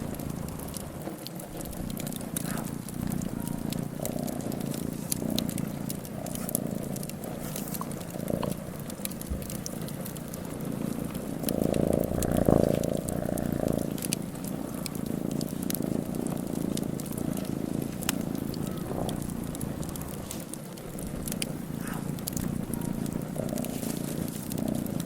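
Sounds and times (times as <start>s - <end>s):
cat purring: 0.0s - 25.0s
wood fire crackling and popping: 0.0s - 25.0s.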